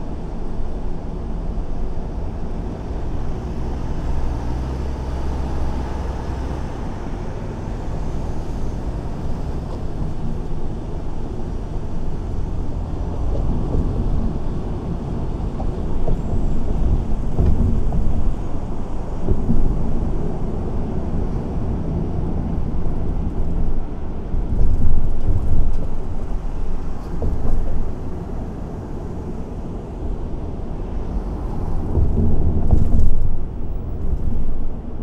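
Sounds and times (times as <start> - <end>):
car engine and tyre road noise: 0.0 - 35.0.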